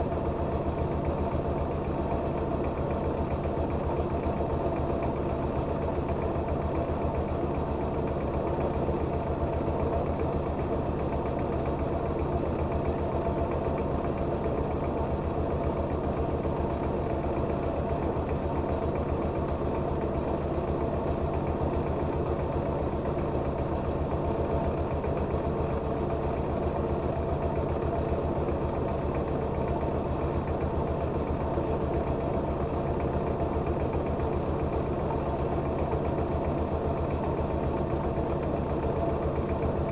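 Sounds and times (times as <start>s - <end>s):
rice milling machine running: 0.0s - 39.9s.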